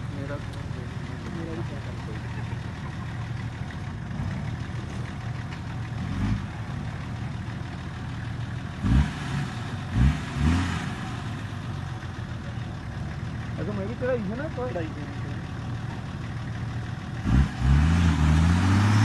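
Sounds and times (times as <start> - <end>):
truck engine idling and revving: 0.0 - 19.0.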